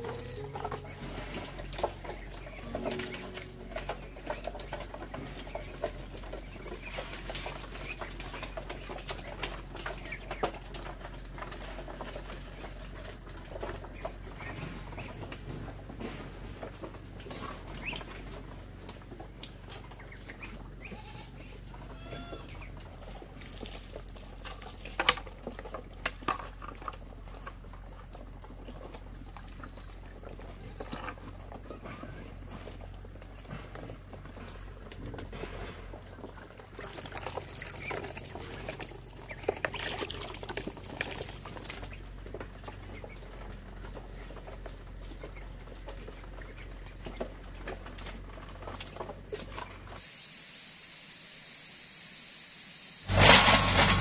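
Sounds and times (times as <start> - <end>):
ducks pecking at feed: 0.0 - 50.0.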